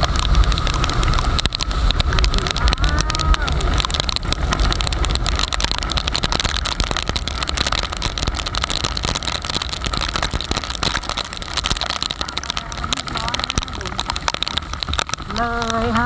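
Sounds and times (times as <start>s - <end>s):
small ticks: 0.0s - 16.0s
wind rush on microphone: 0.0s - 16.0s.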